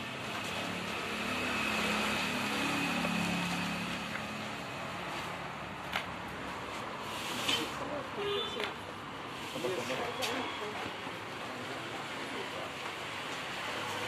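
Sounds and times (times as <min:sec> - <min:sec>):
market hubbub: 0:00.0 - 0:14.0.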